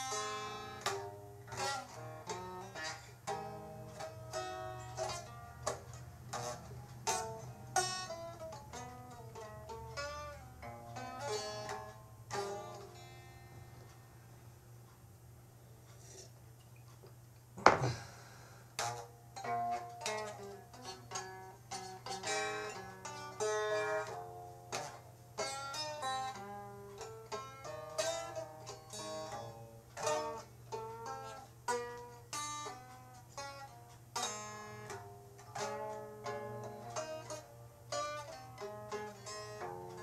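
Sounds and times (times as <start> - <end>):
plucked string melody: 0.0 - 15.0, 18.8 - 40.0
steady low hum: 0.0 - 40.0.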